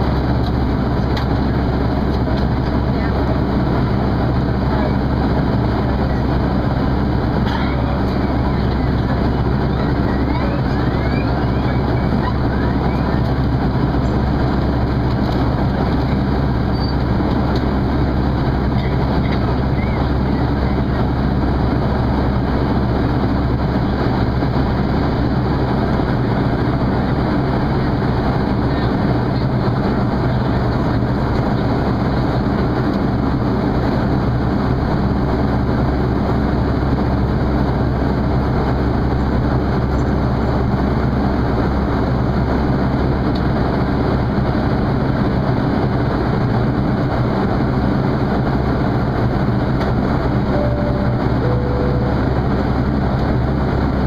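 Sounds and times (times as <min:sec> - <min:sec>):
airflow rush in airliner cabin: 0:00.0 - 0:54.0
jet engines humming: 0:00.0 - 0:54.0.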